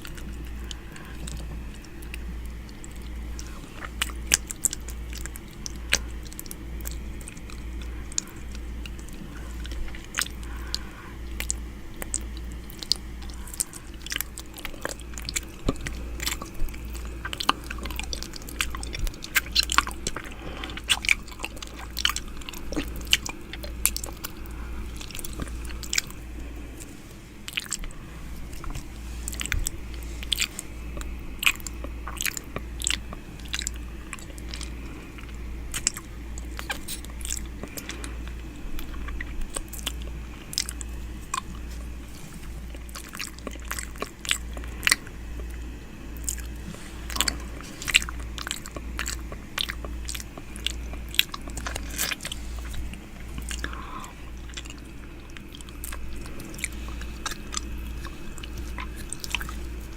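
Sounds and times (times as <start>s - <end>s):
lip smacks: 0.0s - 59.9s.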